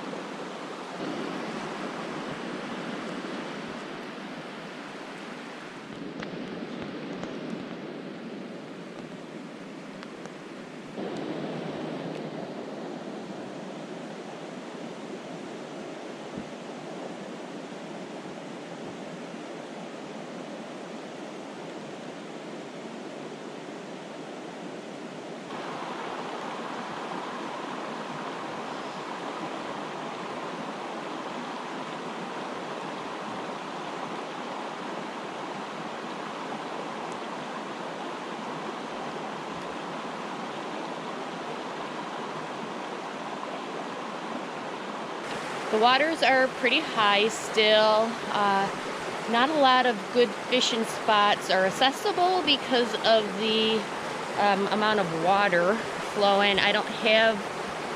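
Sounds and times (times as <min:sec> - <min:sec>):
creek water rushing: 0:00.0 - 0:57.9.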